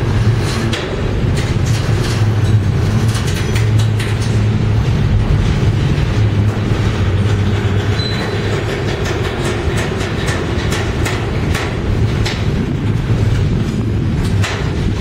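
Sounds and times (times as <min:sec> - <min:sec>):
train clicks and clanks: 0:00.0 - 0:15.0
train wheels rumbling on rail: 0:00.0 - 0:15.0.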